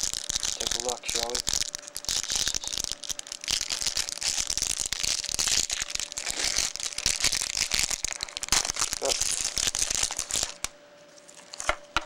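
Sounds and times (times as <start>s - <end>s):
card packaging crinkling: 0.0s - 12.0s.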